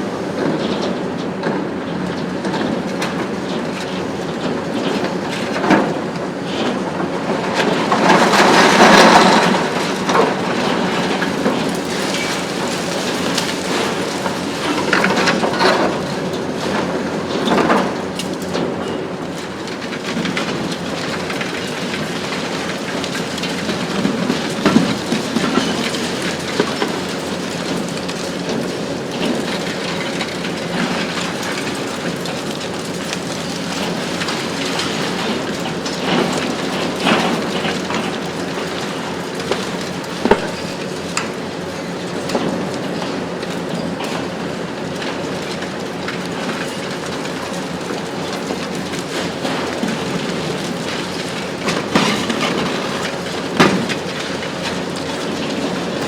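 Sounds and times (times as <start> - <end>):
concrete cracking and clattering: 2.2 - 56.0.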